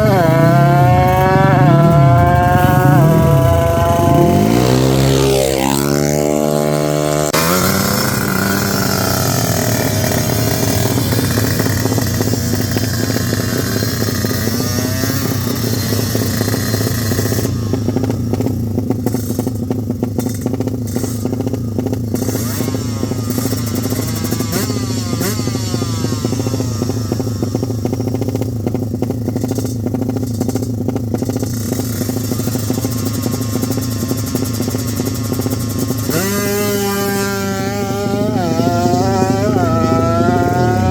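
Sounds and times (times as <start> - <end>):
motorcycle engines running: 0.0 - 40.9
racing motorcycle passing: 0.0 - 40.9.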